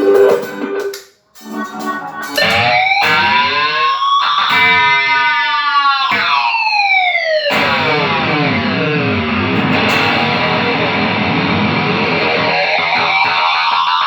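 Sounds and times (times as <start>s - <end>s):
electric guitar with pitch effect: 0.0s - 14.0s.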